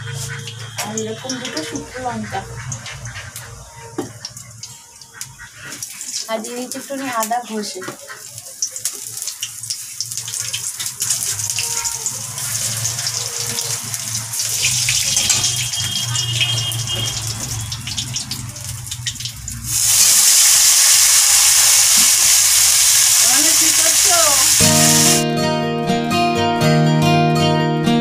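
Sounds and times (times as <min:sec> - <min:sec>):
spices crackling in hot oil: 0:00.1 - 0:25.2
vegetables sizzling in oil: 0:00.1 - 0:25.2.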